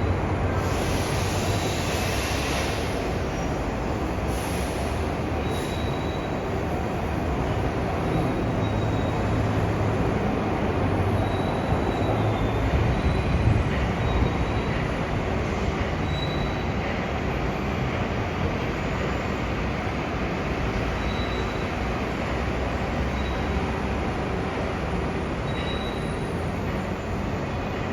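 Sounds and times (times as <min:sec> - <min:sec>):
monorail train rumbling: 0:00.0 - 0:27.9.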